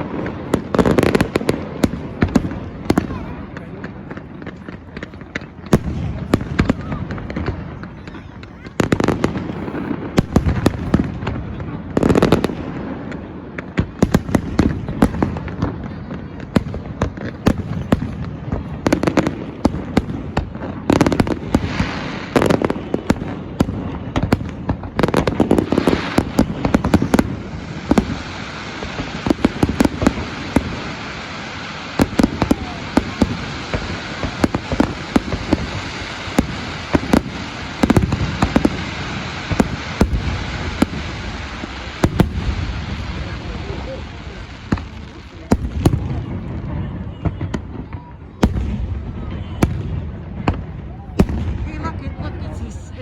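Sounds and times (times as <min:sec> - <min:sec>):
fireworks bangs and booms: 0:00.0 - 0:53.0
fireworks crackle: 0:00.0 - 0:53.0.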